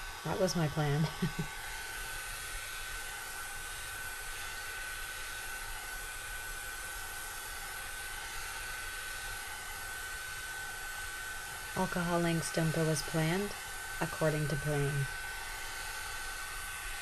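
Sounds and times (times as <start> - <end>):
hot air brush blowing: 0.0 - 17.0
motor whine: 0.0 - 17.0.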